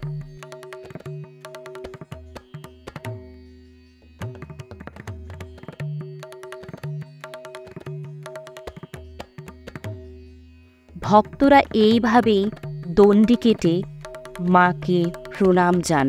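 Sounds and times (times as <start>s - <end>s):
tabla strokes: 0.0s - 16.0s.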